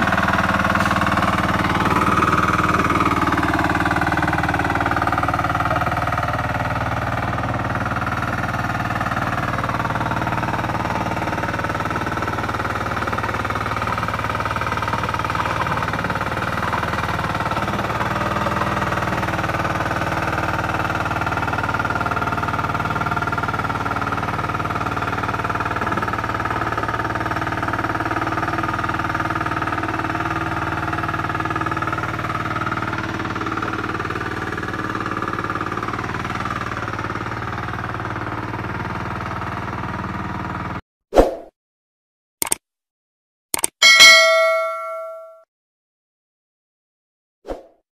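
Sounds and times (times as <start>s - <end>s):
boat engine running under load: 0.0s - 40.8s.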